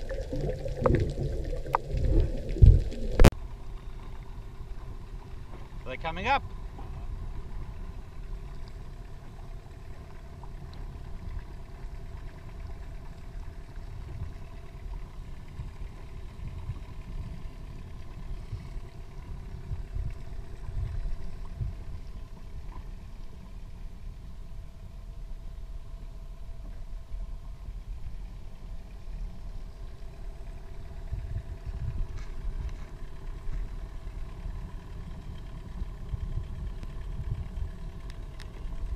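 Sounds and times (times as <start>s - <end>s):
outboard motor idling: 3.4s - 38.9s.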